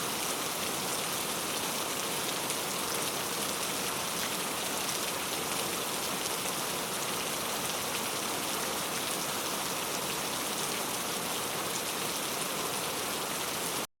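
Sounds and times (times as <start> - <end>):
heavy rain on a tent: 0.0 - 13.9.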